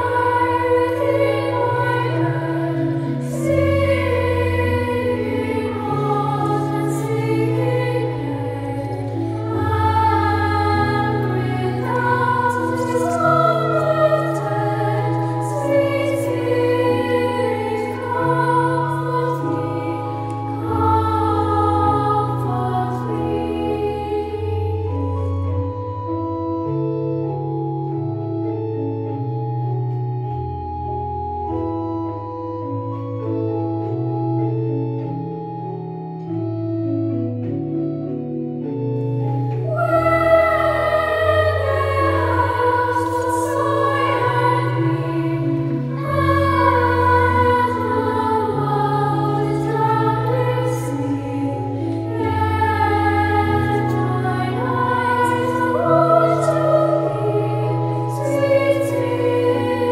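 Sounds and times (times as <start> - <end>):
children's choir singing a hymn: 0.0 - 30.4, 39.0 - 59.9
organ playing chords: 0.0 - 59.9.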